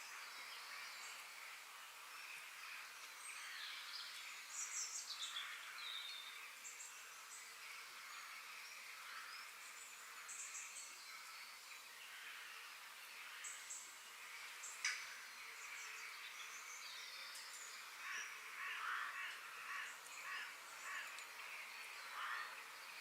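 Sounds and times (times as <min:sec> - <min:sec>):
small birds chirping: 0:00.0 - 0:23.0
steady high hiss: 0:00.0 - 0:23.0.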